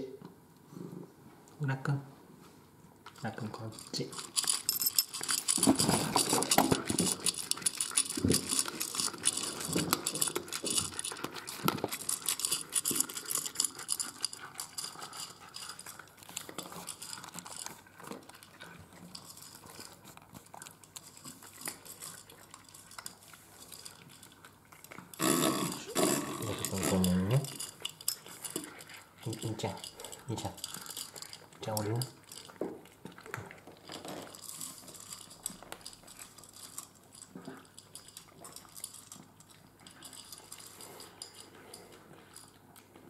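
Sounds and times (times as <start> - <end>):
cats eating from ceramic bowls: 3.0 - 43.0.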